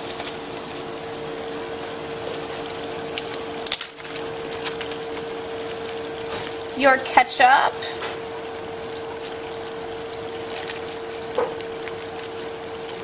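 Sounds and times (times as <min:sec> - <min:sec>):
onion and garlic sizzling in oil: 0:00.0 - 0:13.0
small crackles: 0:00.0 - 0:13.0
steady hum: 0:00.0 - 0:13.0.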